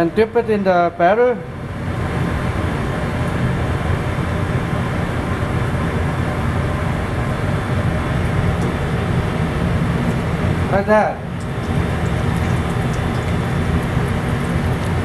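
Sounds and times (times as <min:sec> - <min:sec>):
kitchen range roaring: 0:02.9 - 0:15.0.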